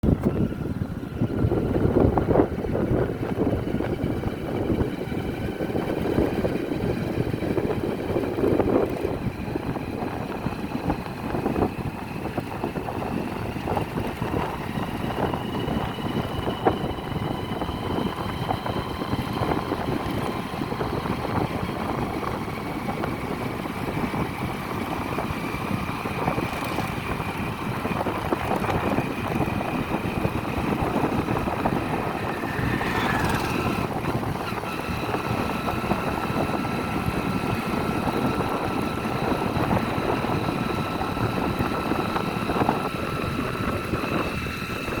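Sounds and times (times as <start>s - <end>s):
motorcycle engine running: 0.0s - 45.0s
road noise: 0.0s - 45.0s.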